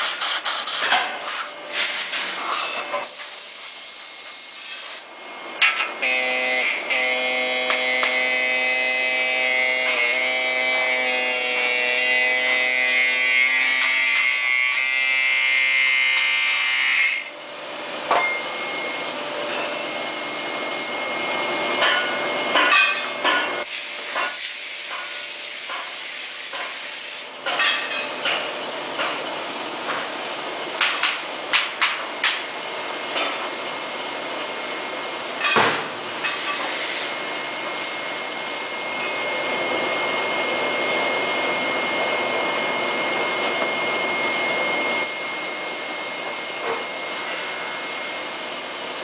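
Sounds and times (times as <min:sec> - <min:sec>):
machine humming and hissing: 0:00.0 - 0:49.0.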